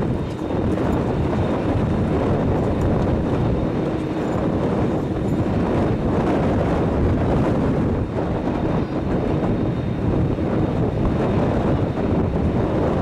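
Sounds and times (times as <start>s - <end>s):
jet engines rumbling and whining: 0.0s - 13.0s
wind buffeting microphone: 0.0s - 13.0s.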